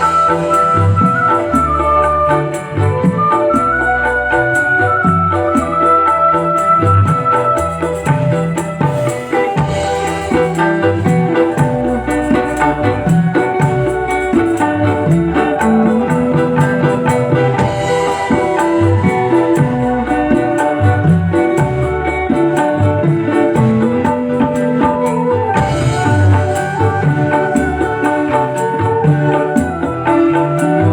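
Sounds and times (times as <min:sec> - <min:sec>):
instrumental band music: 0:00.0 - 0:30.9.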